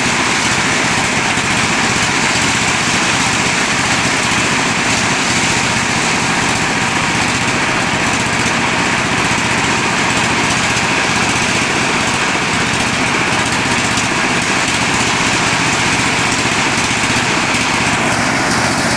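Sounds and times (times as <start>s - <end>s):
corn sheller machine running: 0.0s - 18.9s.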